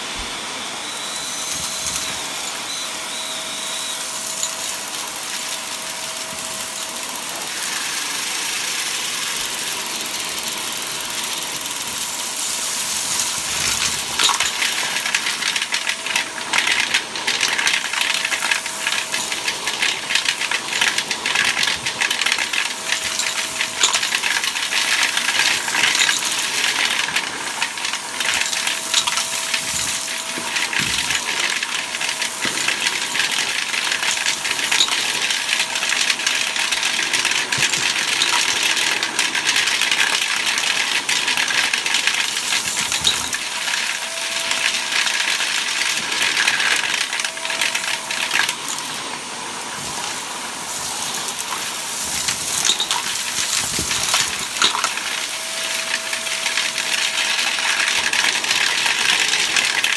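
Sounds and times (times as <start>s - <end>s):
vacuum cleaner running: 0.0s - 59.9s
grit rattling through hose: 4.0s - 44.0s, 44.6s - 59.9s.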